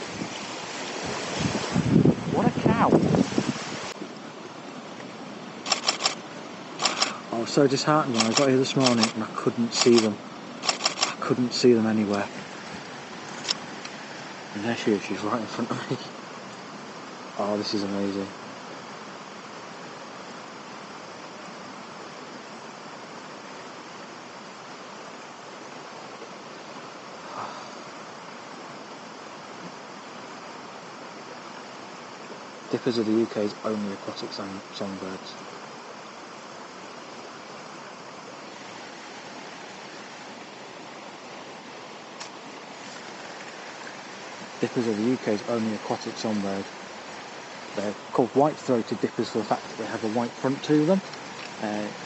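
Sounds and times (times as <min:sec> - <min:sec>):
river rapids over stones: 0:00.0 - 0:18.3, 0:27.2 - 0:52.0.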